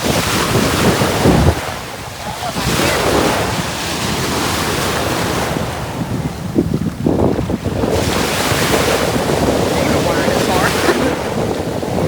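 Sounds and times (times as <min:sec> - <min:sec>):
ocean surf washing in: 0:00.0 - 0:06.6, 0:07.4 - 0:12.0
wind buffeting microphone: 0:00.0 - 0:12.0.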